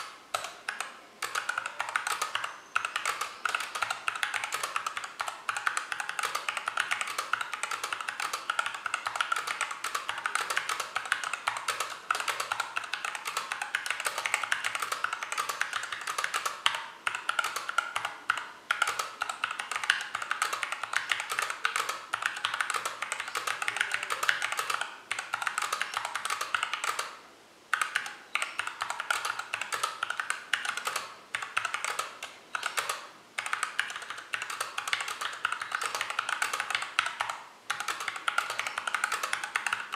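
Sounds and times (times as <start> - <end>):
fast typing on mechanical keyboard: 0.0 - 27.1, 27.7 - 39.9.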